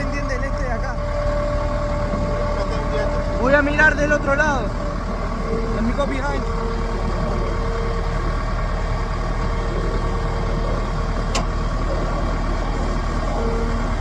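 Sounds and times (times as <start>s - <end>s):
diesel engine rumbling: 0.0s - 14.0s
engine whine: 0.0s - 14.0s.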